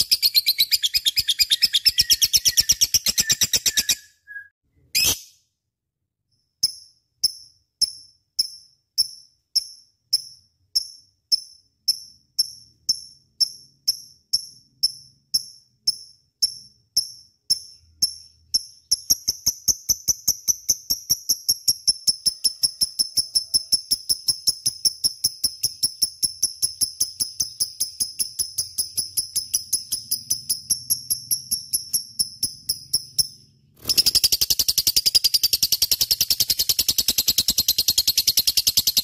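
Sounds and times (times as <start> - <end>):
lovebird chirping: 0.0 - 5.4, 6.6 - 39.0.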